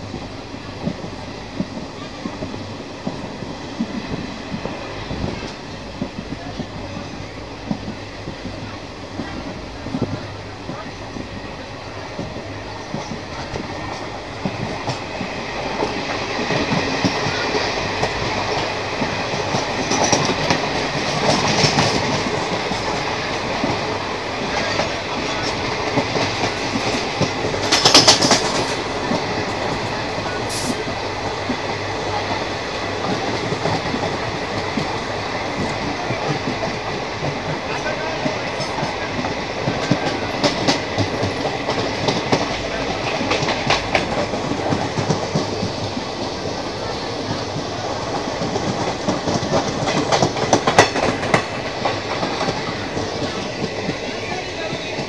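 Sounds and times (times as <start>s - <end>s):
passing train on next track: 0.0s - 55.0s
train wheel and rail rumble: 0.0s - 55.0s.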